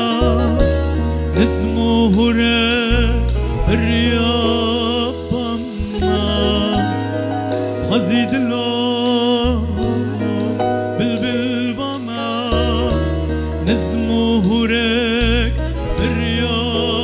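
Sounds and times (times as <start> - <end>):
bass line: 0.0 - 17.0
electric guitar: 0.0 - 17.0
electronic keyboards: 0.0 - 17.0
man singing with vibrato: 0.0 - 17.0.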